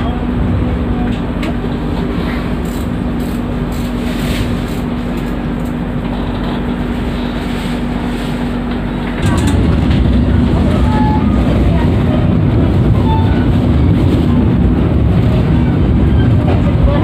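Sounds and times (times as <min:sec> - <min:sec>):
constant low hum: 0:00.0 - 0:17.0
train rolling rumble: 0:00.0 - 0:17.0.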